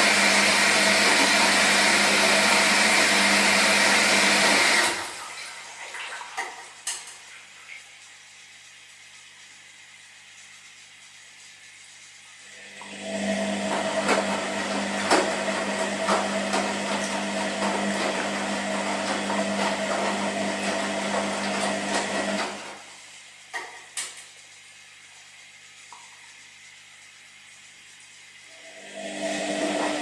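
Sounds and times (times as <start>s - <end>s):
washing machine drum humming: 0.0s - 8.5s, 12.3s - 30.0s.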